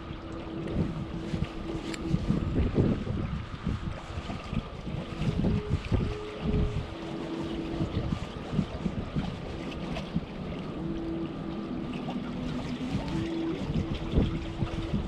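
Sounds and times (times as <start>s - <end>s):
steady low hum: 0.0s - 15.0s
wind gusting against microphone: 0.0s - 15.0s.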